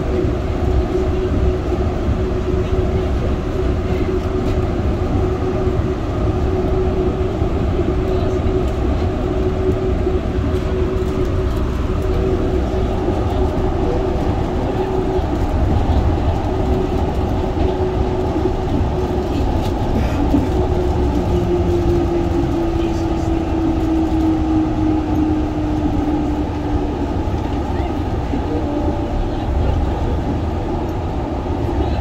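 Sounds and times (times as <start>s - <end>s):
train low rumble: 0.0s - 32.0s
train whine: 0.0s - 32.0s.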